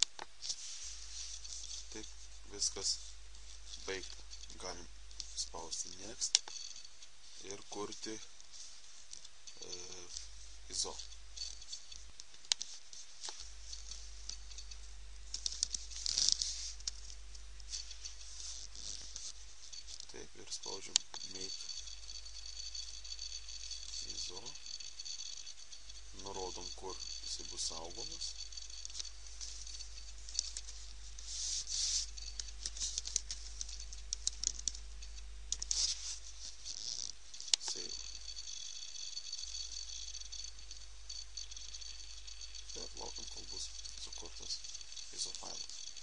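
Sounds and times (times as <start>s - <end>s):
low hum and hiss: 0.0s - 46.0s.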